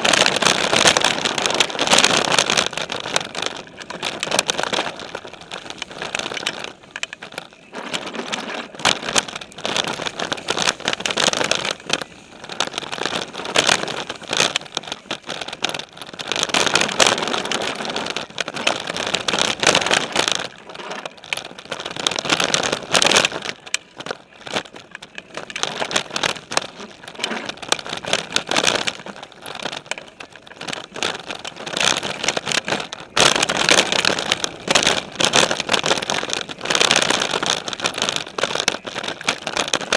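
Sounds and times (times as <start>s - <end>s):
bike frame rattling: 0.0s - 39.9s
bike tyres rushing over dirt: 0.0s - 39.9s.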